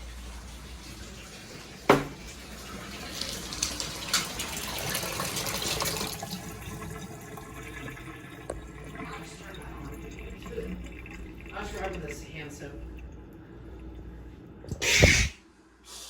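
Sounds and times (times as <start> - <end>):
water running: 0.0 - 16.0.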